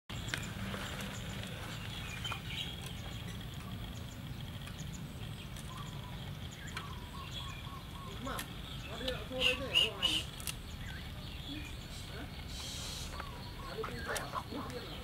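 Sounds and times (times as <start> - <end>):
faint bird chirps: 0.1 - 15.0.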